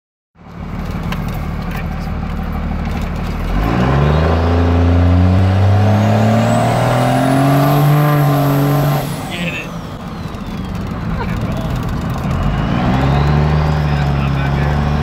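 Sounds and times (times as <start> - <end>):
diesel engine accelerating: 0.4 - 15.0.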